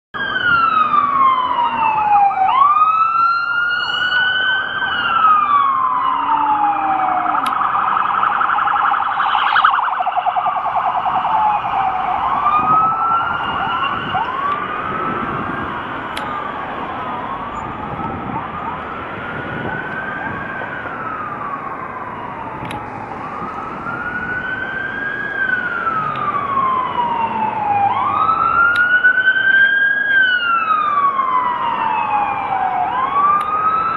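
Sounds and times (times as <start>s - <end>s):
city traffic noise: 0.2s - 33.9s
police siren wailing: 0.2s - 33.9s.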